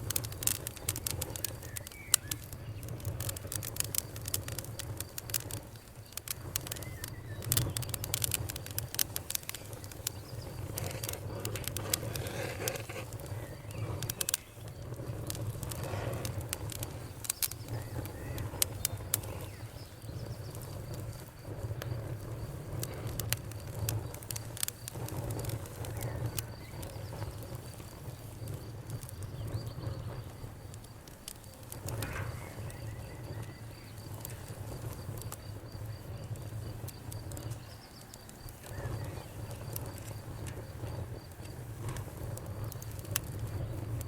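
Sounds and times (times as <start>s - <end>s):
campfire crackling and popping: 0.0s - 44.0s
low rumble of flames: 0.0s - 44.0s.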